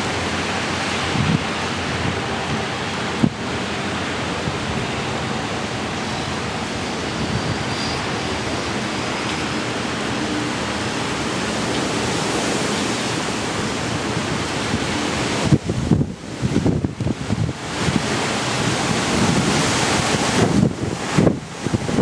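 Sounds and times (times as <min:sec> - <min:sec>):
loud rushing wind: 0:00.0 - 0:22.0.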